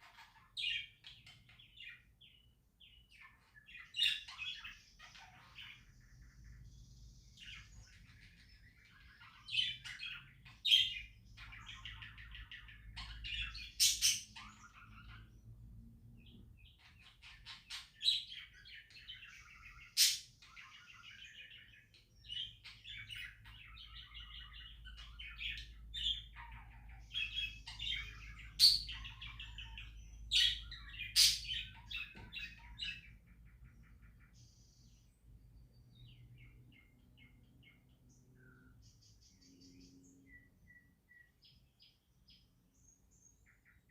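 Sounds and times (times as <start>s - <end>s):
budgerigars chirping and chattering: 0.0s - 43.9s.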